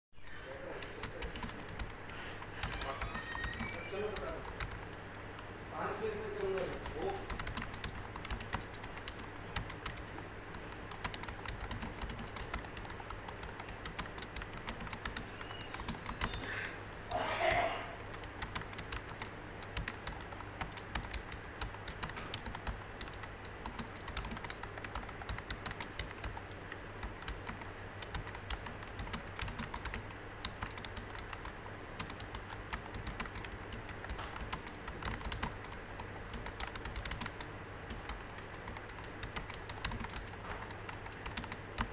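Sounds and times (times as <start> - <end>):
fast typing on keyboard: 0.8 - 16.4, 17.1 - 41.9.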